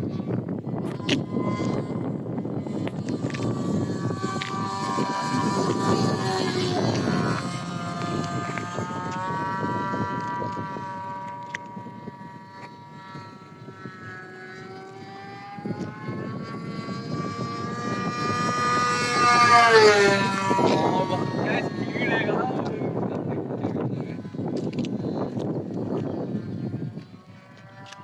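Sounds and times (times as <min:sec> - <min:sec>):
model aircraft engine buzzing: 0:00.0 - 0:28.0.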